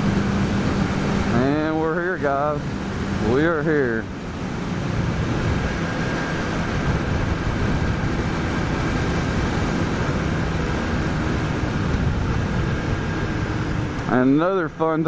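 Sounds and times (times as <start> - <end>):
wind noise: 0.0 - 14.2
motorcycle engine running: 0.0 - 15.0.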